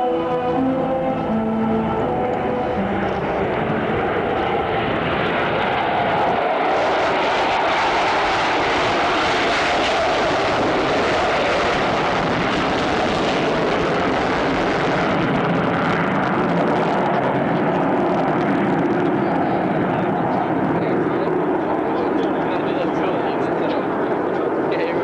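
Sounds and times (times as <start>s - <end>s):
jet engine roar: 0.0s - 25.0s.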